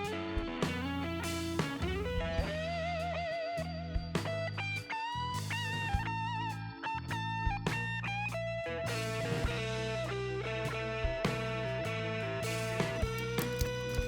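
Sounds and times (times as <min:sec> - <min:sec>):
bass line: 0:00.0 - 0:14.0
bluesy electric guitar: 0:00.0 - 0:14.0.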